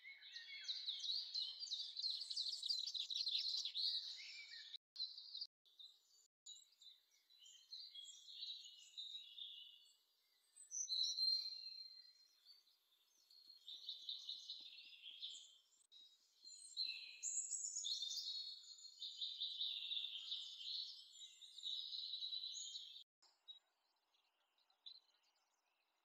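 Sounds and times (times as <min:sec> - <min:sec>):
bird chirping and twittering: 0:00.0 - 0:23.6.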